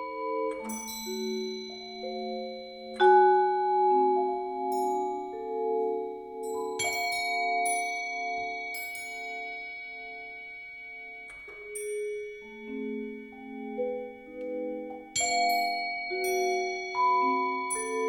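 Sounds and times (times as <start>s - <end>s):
vibraphone and marimba music: 0.0s - 18.0s.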